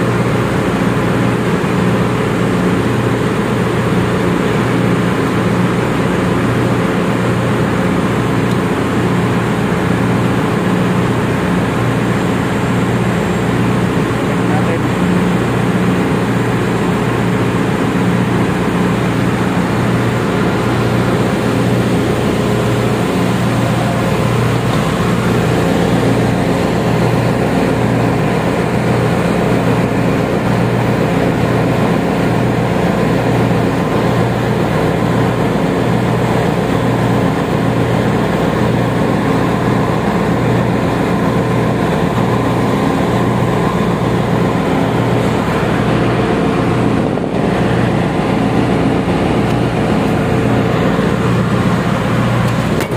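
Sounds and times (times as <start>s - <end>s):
engine room machinery drone: 0.0s - 52.9s.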